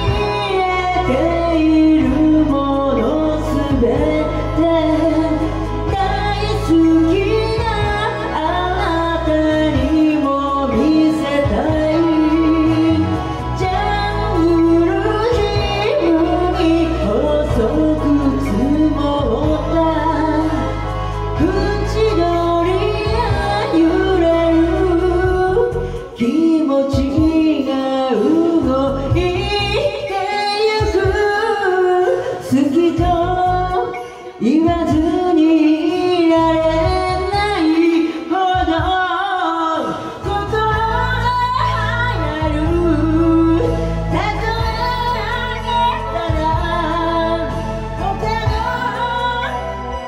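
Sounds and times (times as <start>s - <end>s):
karaoke backing track: 0.0s - 50.0s
woman singing into a microphone: 0.0s - 50.0s.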